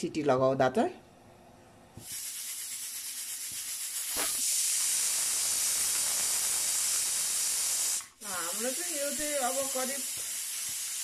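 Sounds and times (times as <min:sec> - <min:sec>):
pressure cooker whistle hissing: 0:02.0 - 0:11.0.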